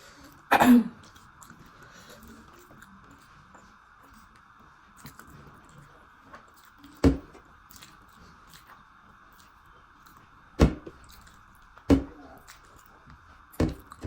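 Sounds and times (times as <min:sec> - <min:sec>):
quiet chewing: 0:00.0 - 0:14.0.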